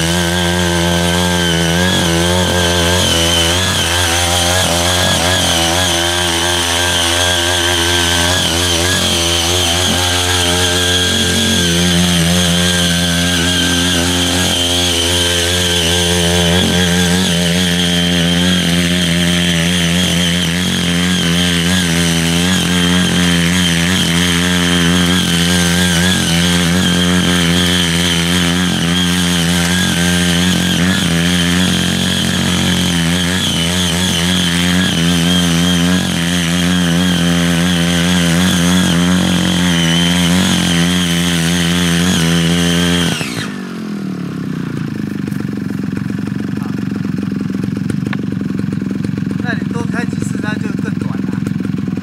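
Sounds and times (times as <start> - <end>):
tiller engine running: 0.0 - 52.0
tilling blades churning soil: 0.0 - 52.0.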